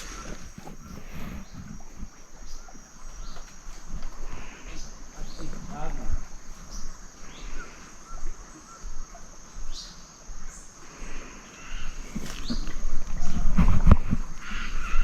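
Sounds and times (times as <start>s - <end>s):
downward-sliding bird calls: 0.0s - 10.8s, 11.4s - 15.0s
insects droning: 0.0s - 15.0s.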